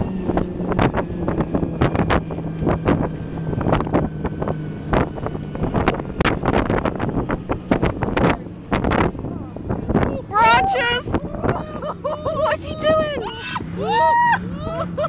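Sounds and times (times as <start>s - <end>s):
snowmobile engine droning: 0.0s - 15.0s
wind buffeting microphone: 0.0s - 15.0s.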